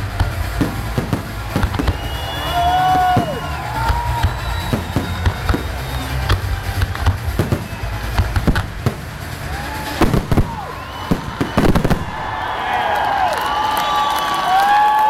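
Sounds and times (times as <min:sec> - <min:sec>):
firework shells bursting: 0:00.0 - 0:12.6
crowd cheering: 0:00.0 - 0:15.0.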